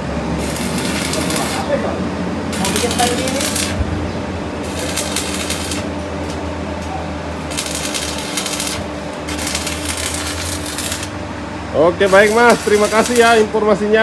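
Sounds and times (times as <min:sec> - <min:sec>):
welding arc crackling: 0:00.0 - 0:06.5, 0:07.3 - 0:11.2, 0:11.8 - 0:13.9
steady low hum: 0:00.0 - 0:14.0.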